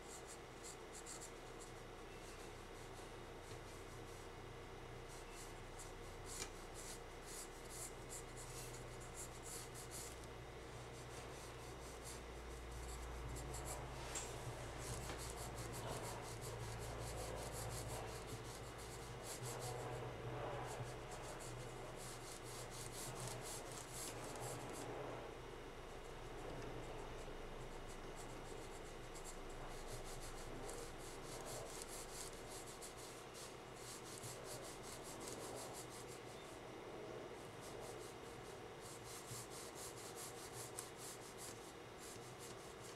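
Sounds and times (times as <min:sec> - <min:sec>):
faint low hum: 0:00.0 - 0:42.9
pencil scratching on paper: 0:00.1 - 0:04.3, 0:05.0 - 0:25.2, 0:25.9 - 0:36.6, 0:37.4 - 0:42.9.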